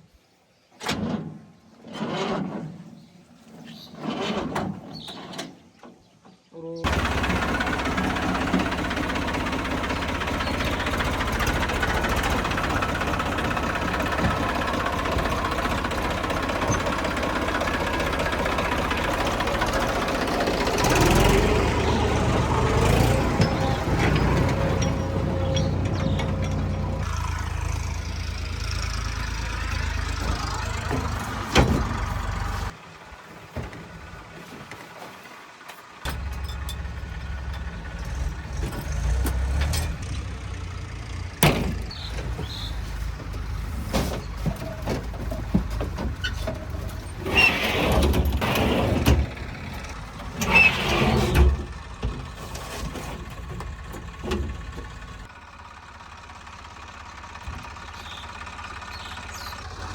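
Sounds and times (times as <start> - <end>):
heavy tractor engine running: 6.8 - 59.9.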